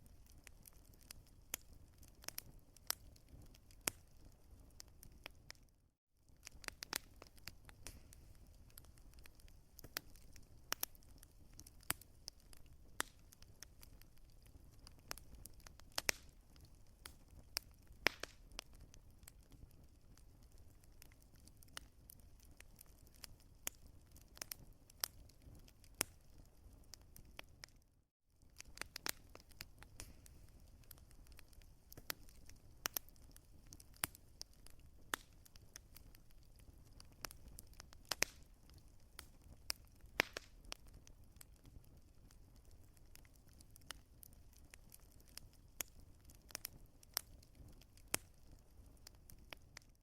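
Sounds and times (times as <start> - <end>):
wood fire crackling and popping: 0.0 - 27.8, 28.4 - 50.0.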